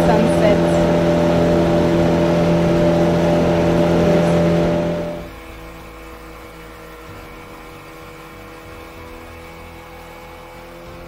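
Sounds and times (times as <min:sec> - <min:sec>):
outboard motor running: 0:00.0 - 0:11.0
soft background music: 0:00.0 - 0:11.0.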